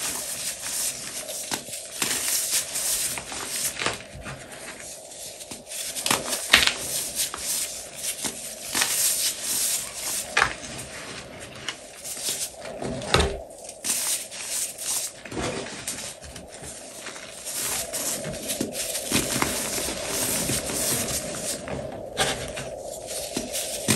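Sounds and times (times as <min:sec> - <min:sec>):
chalk crunching and crackling: 0:00.0 - 0:12.8, 0:13.6 - 0:23.9
gritty rubbing: 0:00.0 - 0:23.9.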